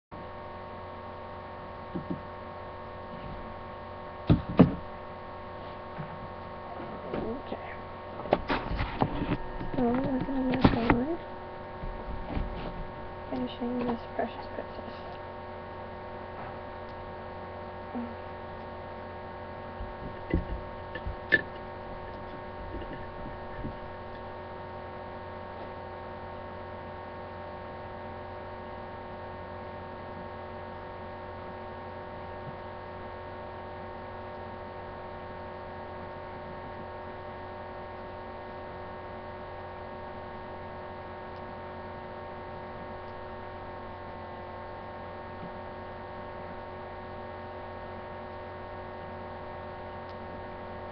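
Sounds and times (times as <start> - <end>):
steady electrical hum: 0.1 - 50.9.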